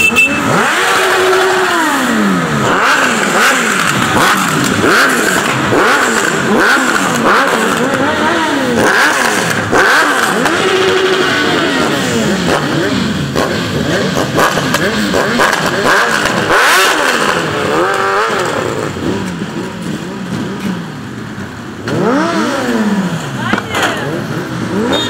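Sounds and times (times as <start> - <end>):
motorcycles revving passing by: 0.0 - 25.0.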